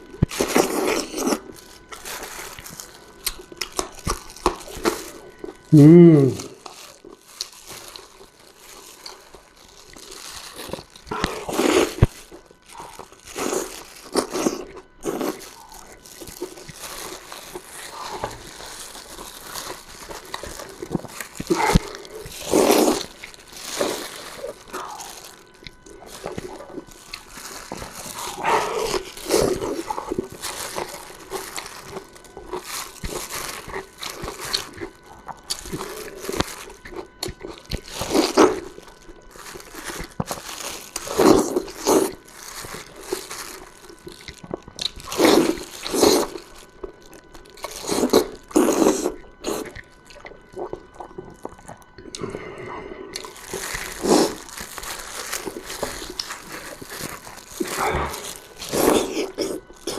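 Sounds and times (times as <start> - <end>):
slurping and chewing soft food: 0.0 - 59.9.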